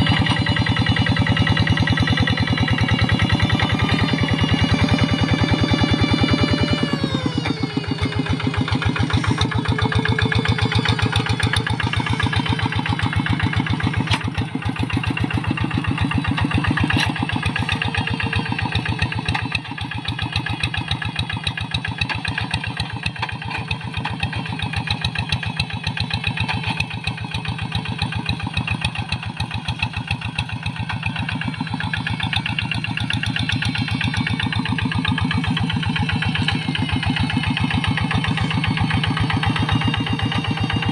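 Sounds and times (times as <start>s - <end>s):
single-cylinder diesel engine running: 0.0s - 40.9s.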